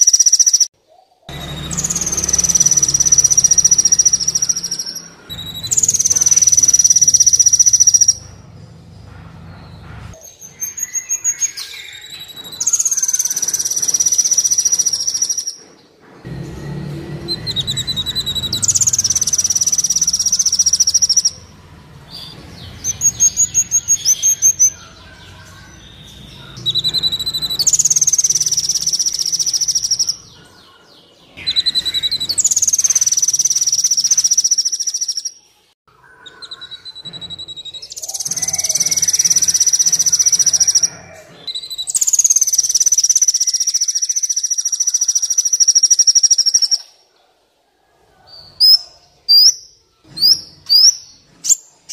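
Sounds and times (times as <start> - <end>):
sunbird trilling: 0.0 - 15.6, 17.2 - 46.9.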